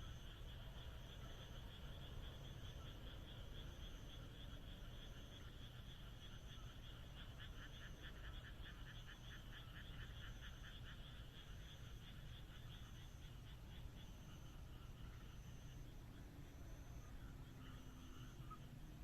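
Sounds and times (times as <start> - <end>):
frog chorus: 0.0 - 19.0
frog croaking rapidly: 0.1 - 19.0.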